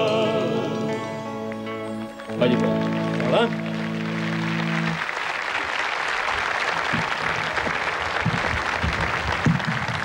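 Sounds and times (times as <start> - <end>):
large audience applauding: 1.5 - 10.0.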